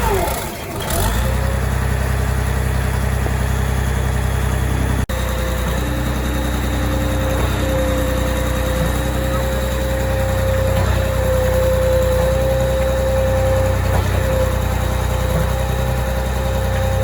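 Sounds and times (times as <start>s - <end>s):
concrete pump engine running: 0.0s - 17.0s.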